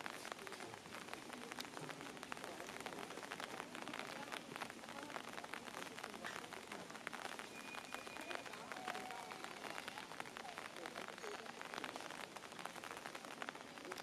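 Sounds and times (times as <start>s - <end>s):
dense crackling noise: 0.0s - 14.0s
murmur of distant voices: 0.0s - 14.0s.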